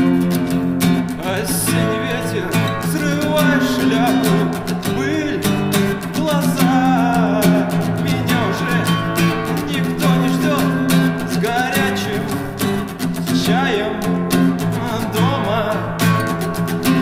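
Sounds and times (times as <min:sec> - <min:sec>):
acoustic guitar strumming: 0:00.0 - 0:17.0
person singing: 0:01.0 - 0:17.0.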